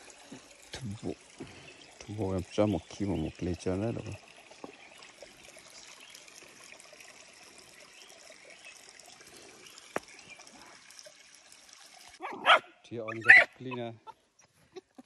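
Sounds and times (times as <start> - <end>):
faint trickling water: 0.0 - 15.0.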